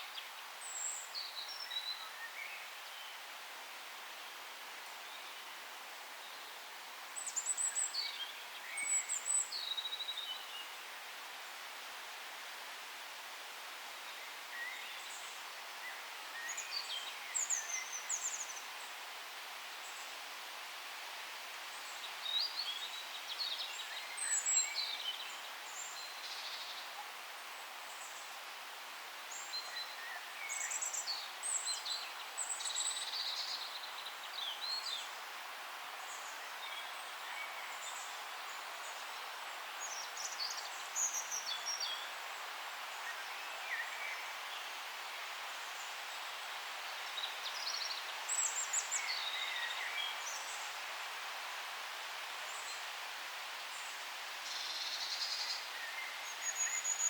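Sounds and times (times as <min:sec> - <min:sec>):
forest ambience hiss: 0:00.0 - 0:57.0.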